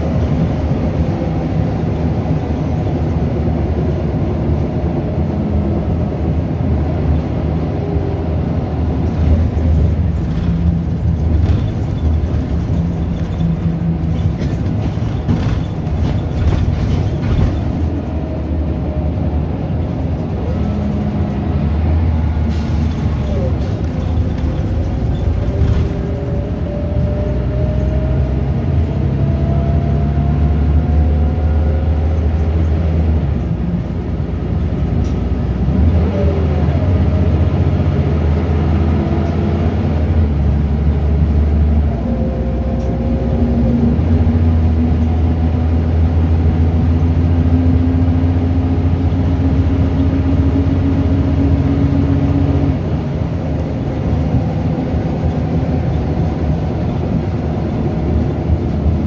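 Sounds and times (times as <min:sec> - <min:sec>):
bus diesel engine revving: 0:00.0 - 0:59.0.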